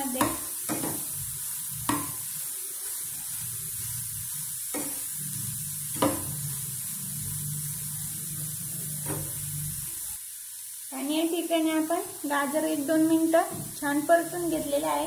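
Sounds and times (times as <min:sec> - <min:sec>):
carrots sizzling in hot fat: 0:00.0 - 0:15.0.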